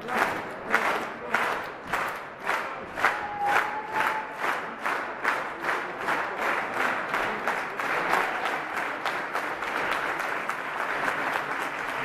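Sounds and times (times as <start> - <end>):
applause: 0.0 - 12.0
crowd clapping in unison: 0.0 - 12.0.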